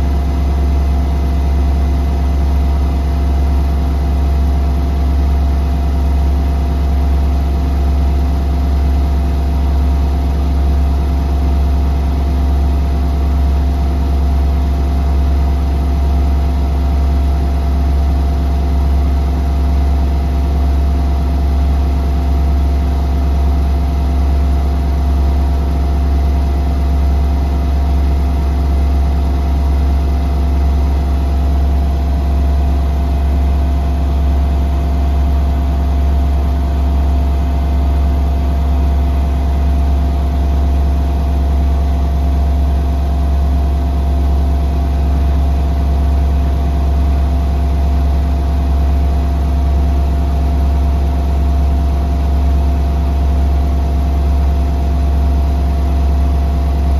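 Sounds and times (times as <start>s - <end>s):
washing machine spinning hum: 0.0s - 56.9s.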